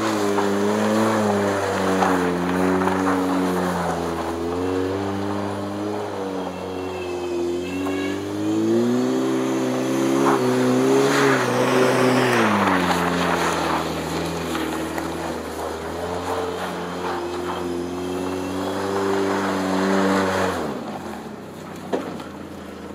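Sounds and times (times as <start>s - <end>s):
tires spinning on snow: 0.0s - 22.9s
truck engine revving: 0.0s - 22.9s.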